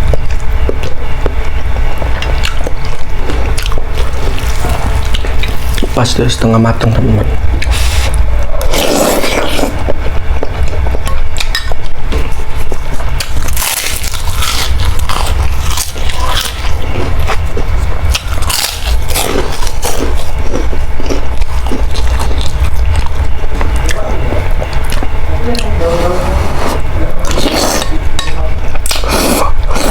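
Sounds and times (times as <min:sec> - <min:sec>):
low rumble: 0:00.0 - 0:29.9
person chewing crunchy food: 0:00.0 - 0:29.9.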